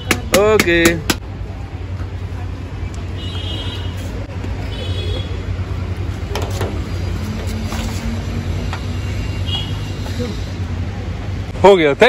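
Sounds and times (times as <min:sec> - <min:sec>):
steady low street rumble: 0:00.0 - 0:12.0.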